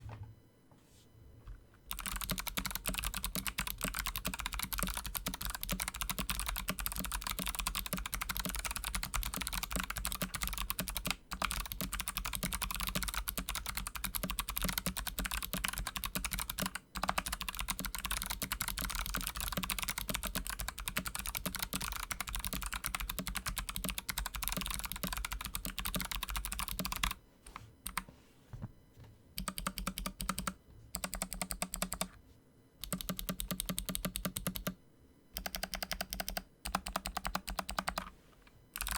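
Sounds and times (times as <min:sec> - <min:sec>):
typing on clicky keyboard: 0:01.9 - 0:27.2, 0:29.4 - 0:32.1, 0:32.8 - 0:34.8, 0:35.4 - 0:38.1.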